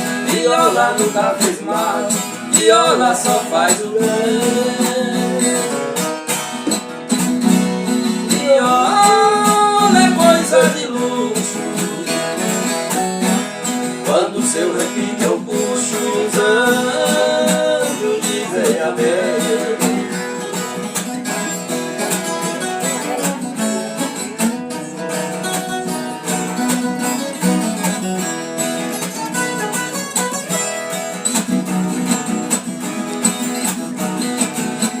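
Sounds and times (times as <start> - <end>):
ten-string guitar plucked and strummed: 0.0 - 35.0.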